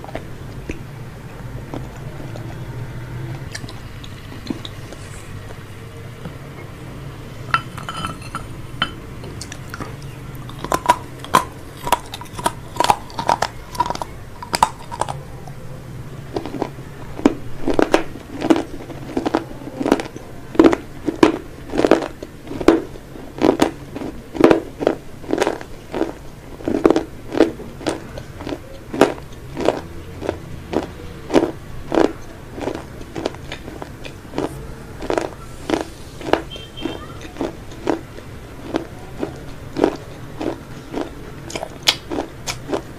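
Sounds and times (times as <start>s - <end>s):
crunchy food chewing: 0.0s - 6.8s, 7.8s - 42.9s.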